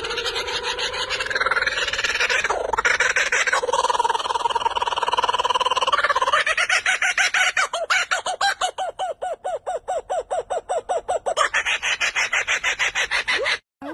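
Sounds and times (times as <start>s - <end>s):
bird chattering: 0.0s - 13.6s.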